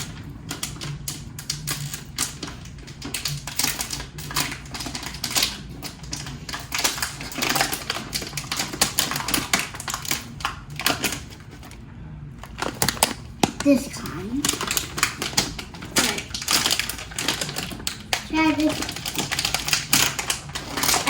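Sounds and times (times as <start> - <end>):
crackers being chewed: 0.0 - 11.8, 12.4 - 21.0.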